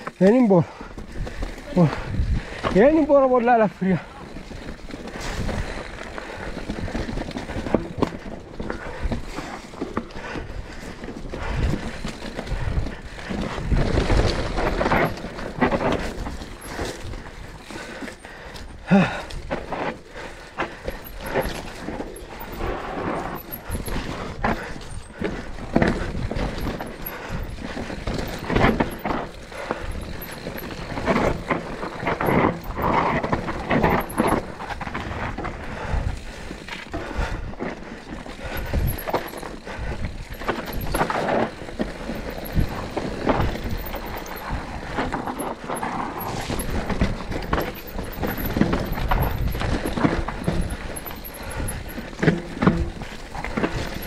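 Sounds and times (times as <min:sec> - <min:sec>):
bike clattering over rocks: 0:03.8 - 0:18.2, 0:19.0 - 0:35.7, 0:38.1 - 0:54.0.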